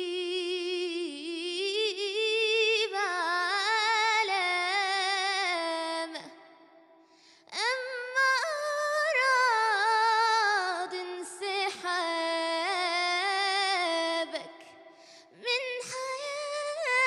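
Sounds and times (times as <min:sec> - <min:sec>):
girl singing unaccompanied: 0:00.0 - 0:06.3, 0:07.5 - 0:14.8, 0:15.4 - 0:17.0.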